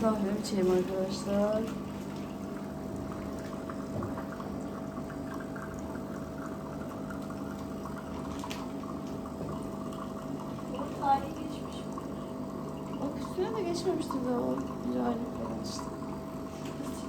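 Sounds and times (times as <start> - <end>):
liquid pouring into cup: 0.0 - 17.0.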